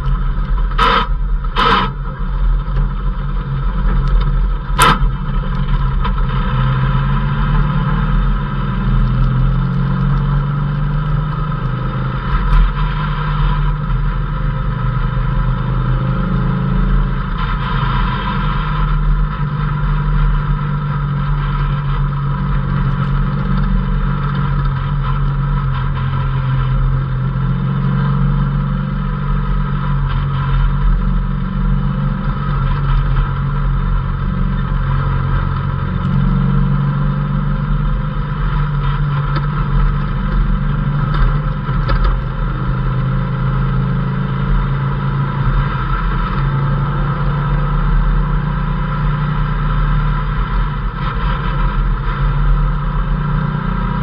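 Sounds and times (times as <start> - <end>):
off-road vehicle engine running: 0.0 - 54.0
road and wind noise: 0.0 - 54.0.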